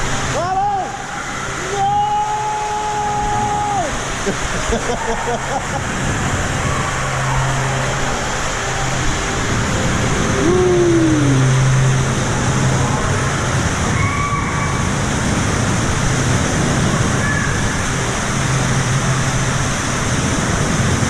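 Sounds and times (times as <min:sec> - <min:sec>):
water rushing and sloshing: 0:00.0 - 0:21.0
low hum: 0:03.3 - 0:21.0.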